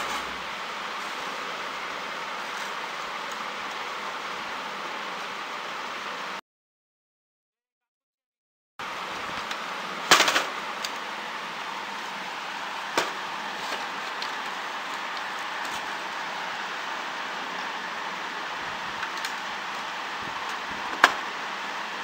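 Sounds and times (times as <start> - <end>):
steady hiss: 0.0 - 6.4, 8.8 - 22.0.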